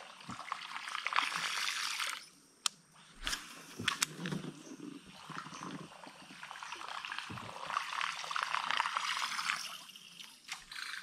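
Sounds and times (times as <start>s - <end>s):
water trickling and splashing: 0.0s - 2.3s, 3.8s - 11.0s.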